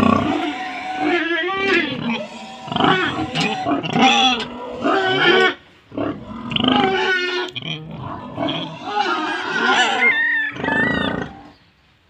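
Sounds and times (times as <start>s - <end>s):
pigs squealing: 0.0s - 11.6s.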